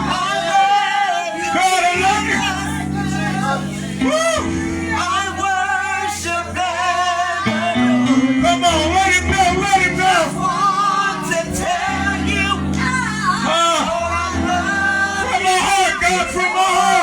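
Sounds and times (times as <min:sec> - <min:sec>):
sustained keyboard chords: 0:00.0 - 0:17.0.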